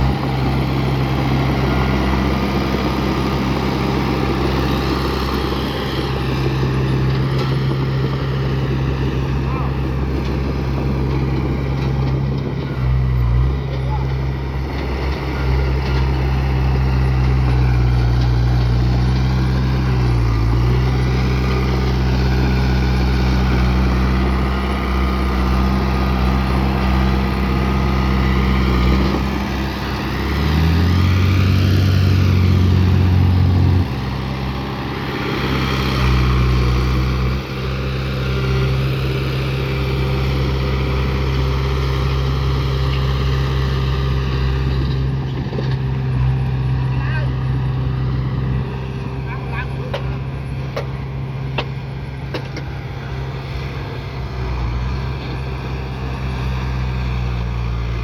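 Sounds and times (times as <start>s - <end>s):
heavy machine diesel engine: 0.0s - 58.0s.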